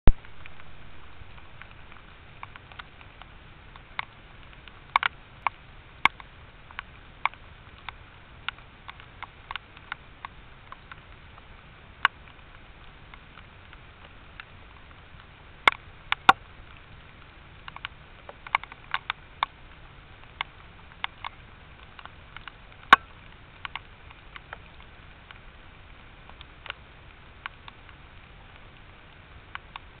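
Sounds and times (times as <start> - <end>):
raindrops tapping on plastic housing: 0.1 - 30.0
steady hiss: 0.1 - 30.0.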